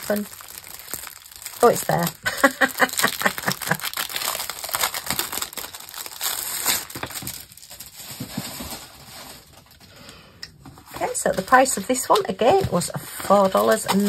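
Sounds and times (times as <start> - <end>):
plastic bag crinkling: 0.0 - 10.0, 10.7 - 14.0.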